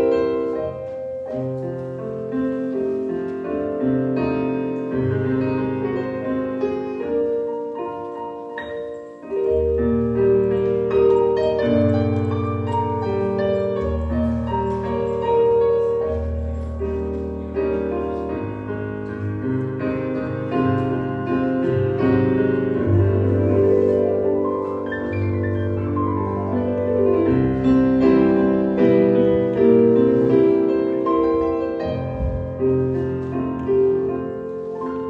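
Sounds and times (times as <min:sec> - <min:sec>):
solo piano slow piece: 0:00.0 - 0:35.0.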